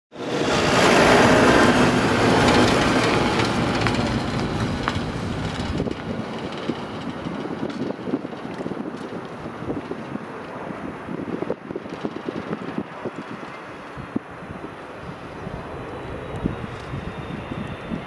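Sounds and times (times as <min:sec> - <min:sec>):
jet engines roaring: 0:00.1 - 0:18.0.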